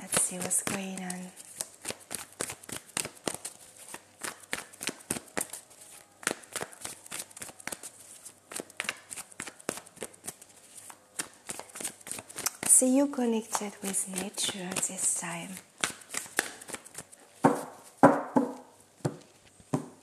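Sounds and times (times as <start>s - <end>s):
cards being shuffled: 0.0s - 18.0s.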